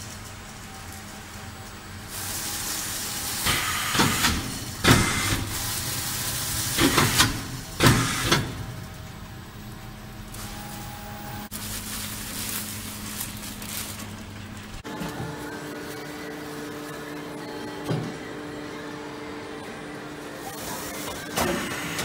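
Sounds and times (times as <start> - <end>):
wrapping machine hissing: 0.0 - 8.9, 10.2 - 17.8, 20.4 - 22.0.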